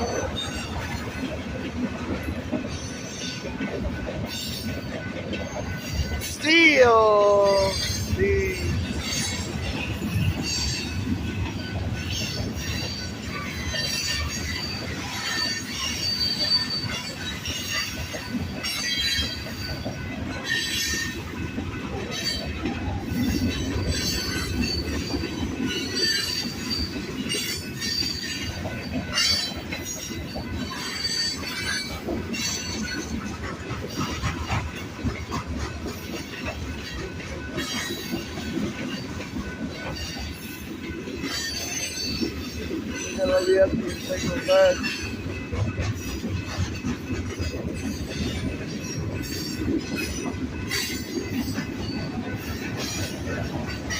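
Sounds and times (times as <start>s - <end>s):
rumble of train cars: 0.0s - 53.9s
train wheels squealing on rails: 0.0s - 53.9s.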